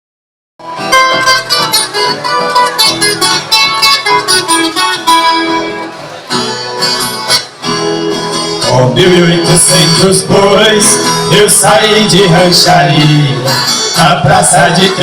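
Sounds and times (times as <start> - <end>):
acoustic guitars playing: 0.6 - 15.0.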